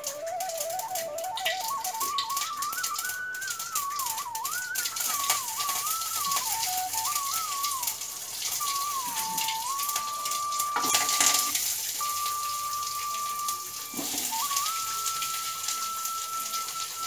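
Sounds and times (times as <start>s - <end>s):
hot oil sizzling: 0.0s - 17.0s
thin background melody: 0.0s - 17.0s.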